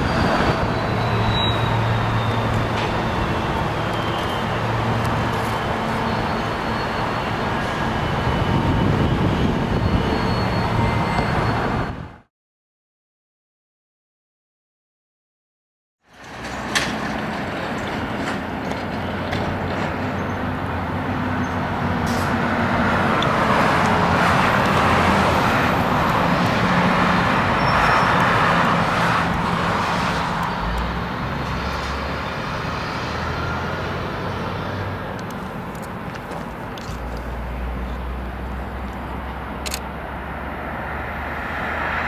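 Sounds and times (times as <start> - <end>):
distant diesel locomotive hum: 0.0 - 12.2, 16.1 - 42.0
freight train rushing: 0.0 - 12.3, 16.1 - 42.0.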